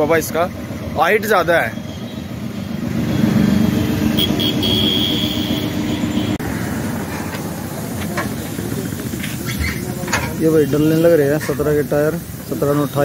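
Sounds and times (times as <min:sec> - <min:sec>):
street noise: 0:00.0 - 0:13.0
vehicle engine running: 0:00.0 - 0:13.0.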